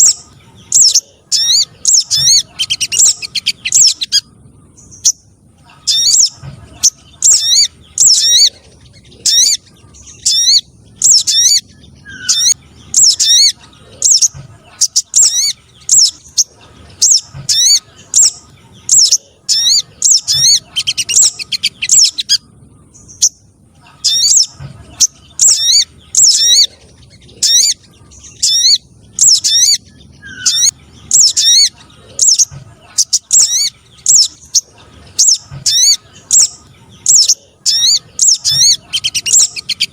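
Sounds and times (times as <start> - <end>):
high sweeping bird chirps: 0.0 - 39.9.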